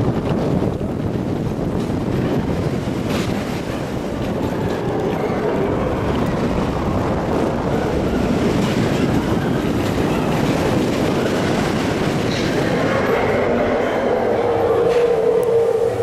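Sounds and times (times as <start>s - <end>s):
roller coaster wheels rumbling on rails: 0.0s - 16.0s
rushing air: 0.0s - 16.0s.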